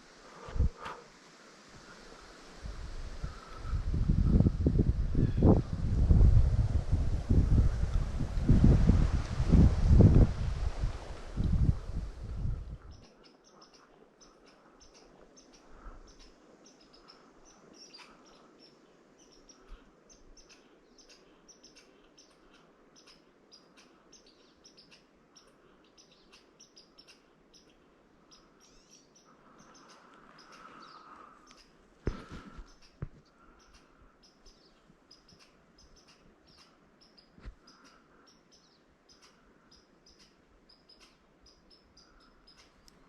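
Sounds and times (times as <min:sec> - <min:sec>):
small birds chirping: 0:03.1 - 0:43.0.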